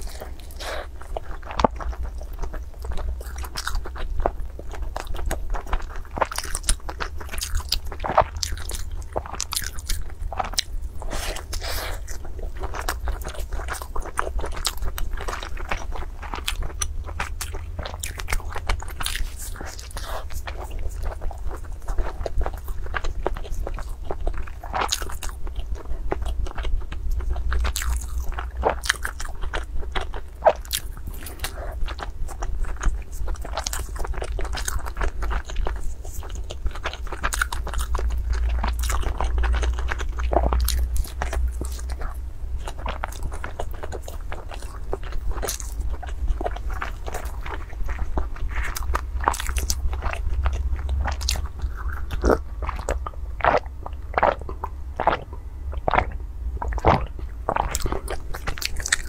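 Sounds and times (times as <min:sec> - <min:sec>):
chewing and crunching food: 0:00.0 - 0:59.0
steady low hum: 0:00.0 - 0:59.0.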